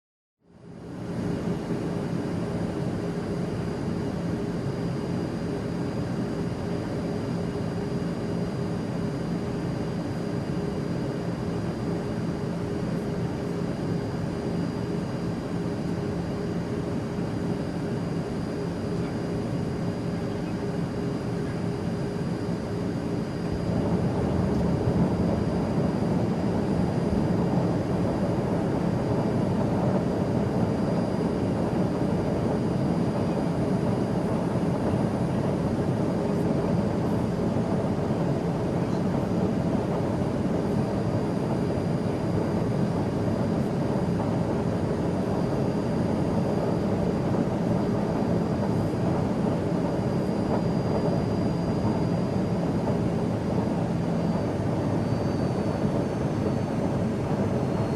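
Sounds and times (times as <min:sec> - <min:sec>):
jet engine and airflow rush: 0:00.6 - 0:57.9.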